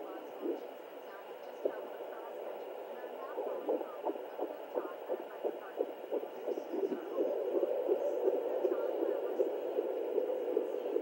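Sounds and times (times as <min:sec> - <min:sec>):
fetal heartbeat pulsing whoosh: 0:01.2 - 0:11.0.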